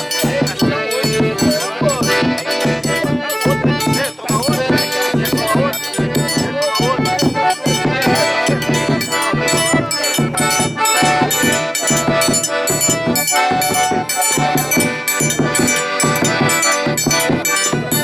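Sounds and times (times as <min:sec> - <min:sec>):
bright rhythmic percussion: 0:00.0 - 0:18.0
steady drum beat: 0:00.0 - 0:18.0
sustained melodic tones: 0:00.0 - 0:18.0.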